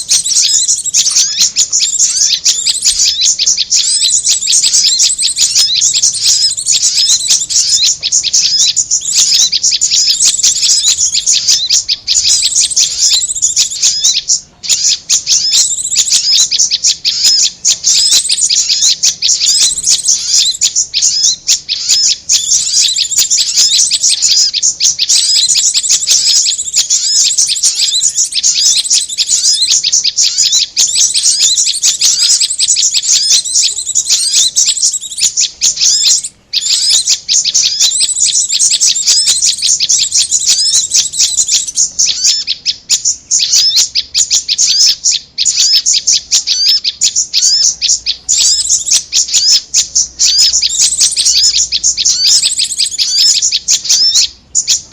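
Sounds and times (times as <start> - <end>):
rapid high bird chirps: 0.0 - 54.9.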